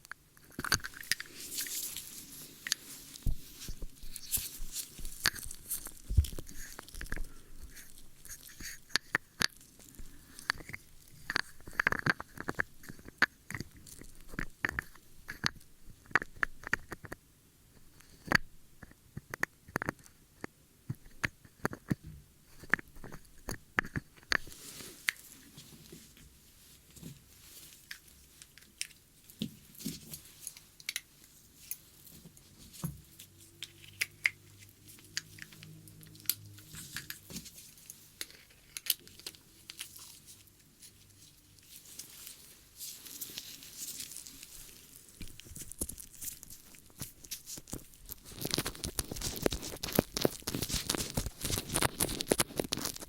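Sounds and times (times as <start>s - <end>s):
crackling and scratching in ear: 0.0s - 53.0s.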